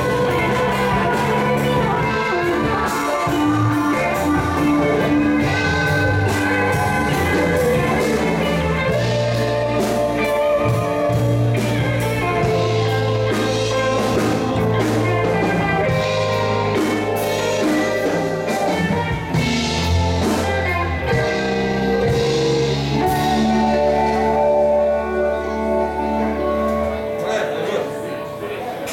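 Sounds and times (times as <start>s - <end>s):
drums steady beat: 0.0s - 24.9s
bass guitar: 0.0s - 28.4s
electric guitars: 0.0s - 28.9s
keyboard: 0.0s - 28.9s.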